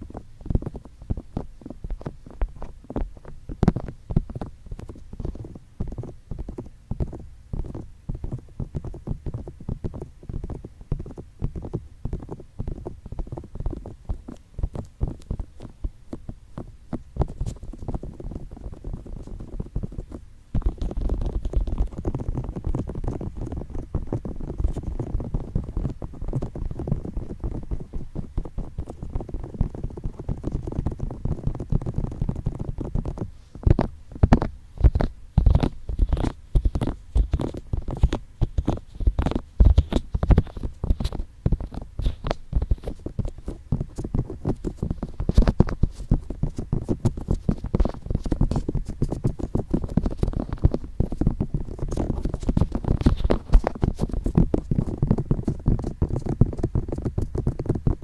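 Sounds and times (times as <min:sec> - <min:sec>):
fingertips tapping on microphone: 0:00.0 - 0:58.0.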